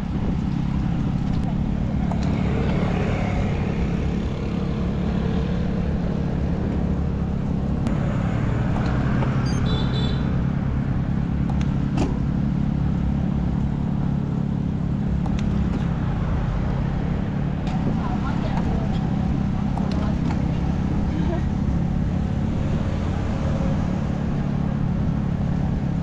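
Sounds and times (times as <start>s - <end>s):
road and wind noise: 0.0s - 26.0s
vehicle engine running: 0.0s - 26.0s.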